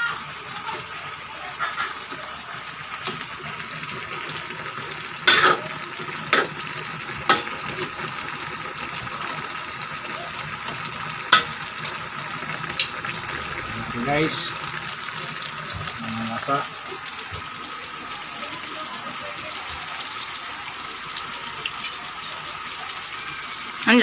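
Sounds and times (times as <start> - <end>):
stew bubbling in a wok: 0.0 - 24.0.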